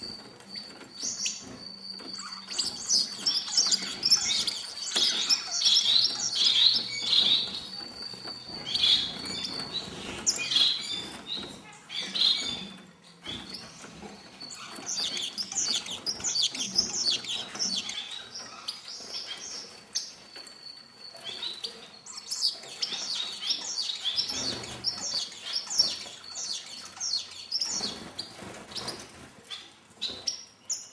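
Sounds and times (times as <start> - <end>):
finches chirping: 0.0 - 30.9.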